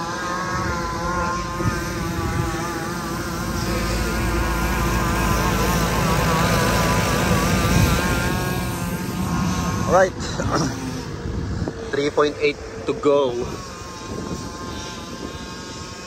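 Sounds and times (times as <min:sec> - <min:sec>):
low wind rumble: 0:00.0 - 0:16.0
motor engine running: 0:00.0 - 0:16.0.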